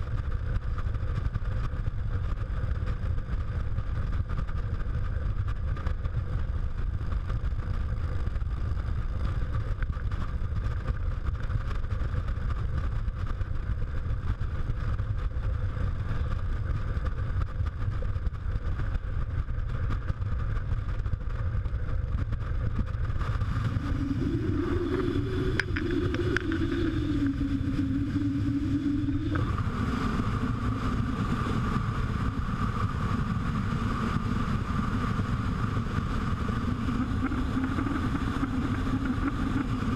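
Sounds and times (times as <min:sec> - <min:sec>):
mid-pitched engine tone: 0:00.0 - 0:39.9
motorcycle engine drone: 0:00.0 - 0:39.9
wind rumble on microphone: 0:00.0 - 0:39.9.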